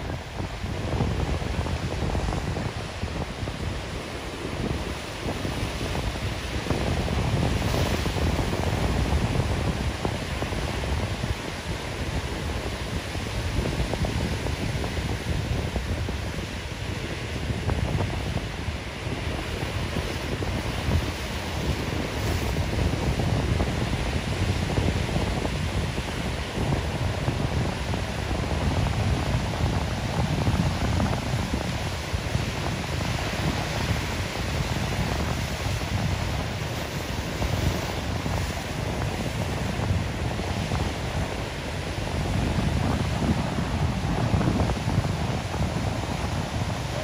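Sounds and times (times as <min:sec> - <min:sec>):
ocean surf breaking on rocks: 0:00.0 - 0:47.0.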